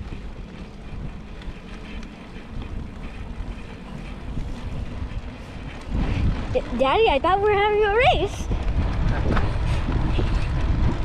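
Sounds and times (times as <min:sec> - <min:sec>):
bicycle ticking and rolling: 0:00.0 - 0:11.0
wind rumble on microphone: 0:00.0 - 0:11.0.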